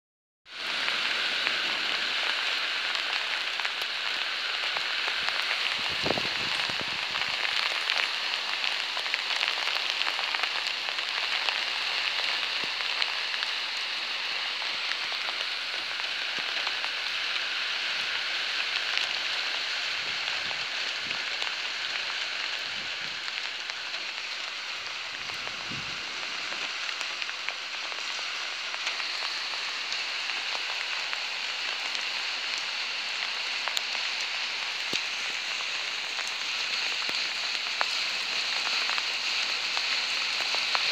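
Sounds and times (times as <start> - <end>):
rain falling on a car: 0.5 - 40.9.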